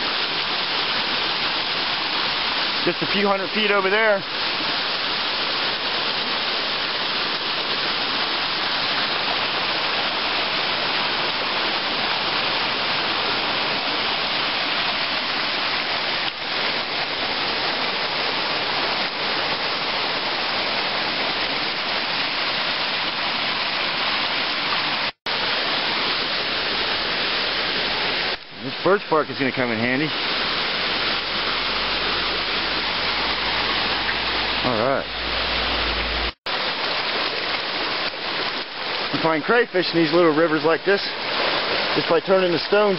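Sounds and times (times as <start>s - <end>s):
creek rushing over rocks: 0.0s - 42.9s.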